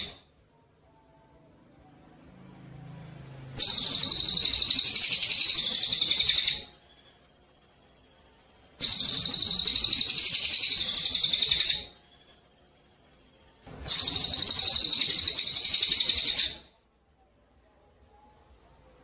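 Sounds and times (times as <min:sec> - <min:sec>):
songbird high-pitched fast trills: 0:00.0 - 0:16.9.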